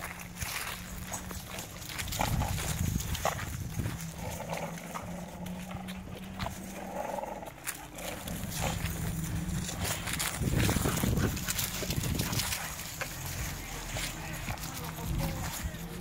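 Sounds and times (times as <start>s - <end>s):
scuffling paws: 0.0s - 16.0s
dogs growling: 0.7s - 16.0s.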